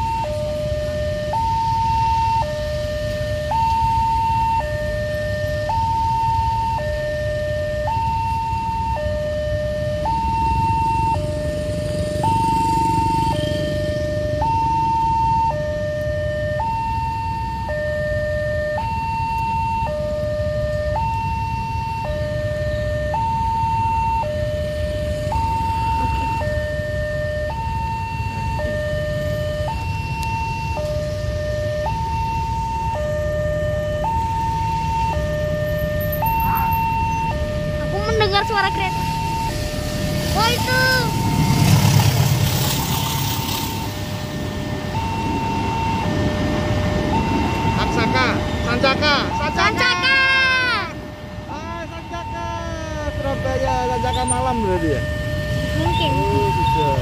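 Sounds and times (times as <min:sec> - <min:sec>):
level crossing two-tone alarm: 0:00.0 - 0:41.8, 0:44.4 - 0:57.0
motorcycles rumbling: 0:08.0 - 0:57.0.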